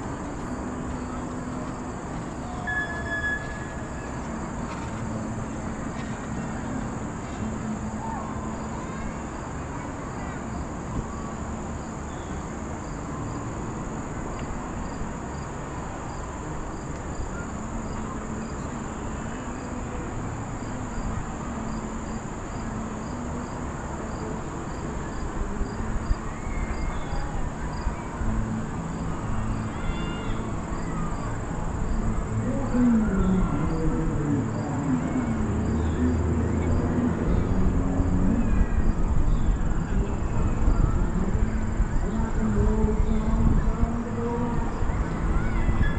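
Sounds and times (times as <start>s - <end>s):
insects buzzing and chirping: 0.0s - 45.9s.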